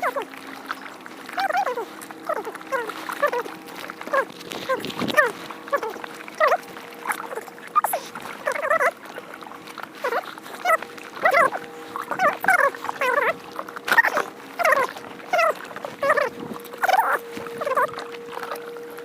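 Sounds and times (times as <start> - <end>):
animal whining cries: 0.0 - 0.3, 1.3 - 9.4, 10.0 - 18.7.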